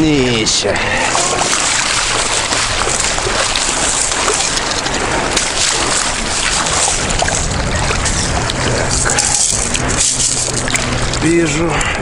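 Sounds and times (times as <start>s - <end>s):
waves washing and splashing: 0.8s - 12.0s.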